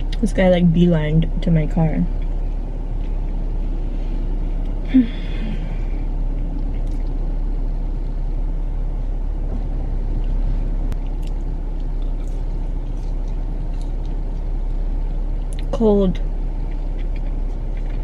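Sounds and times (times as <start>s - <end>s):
car engine idling: 0.0s - 18.0s
climate fan hum: 0.0s - 18.0s.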